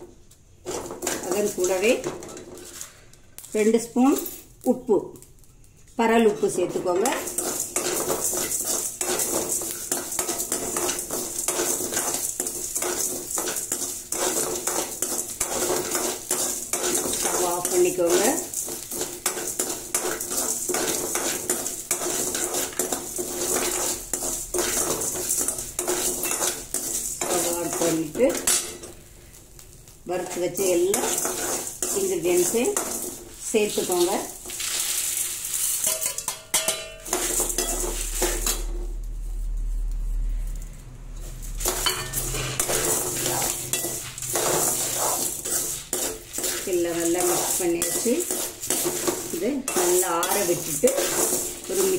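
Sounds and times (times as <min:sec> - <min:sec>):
grains rattling against pan: 0:00.6 - 0:02.9, 0:06.2 - 0:29.0, 0:30.2 - 0:38.7, 0:41.3 - 0:51.9
metal ladle scraping pan: 0:00.6 - 0:03.0, 0:06.2 - 0:29.2, 0:30.1 - 0:38.8, 0:41.2 - 0:51.9.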